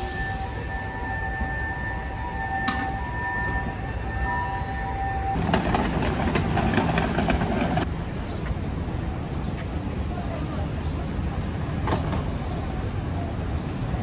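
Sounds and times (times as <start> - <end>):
street traffic rumbling: 0.0 - 14.0.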